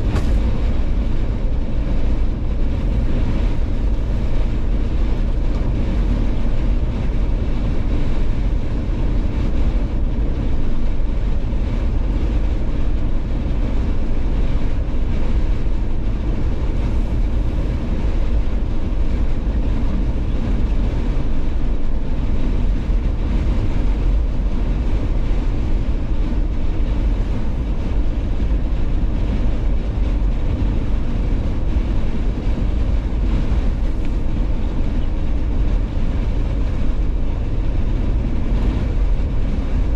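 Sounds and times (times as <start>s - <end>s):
vehicle driving rumble: 0.0s - 39.9s.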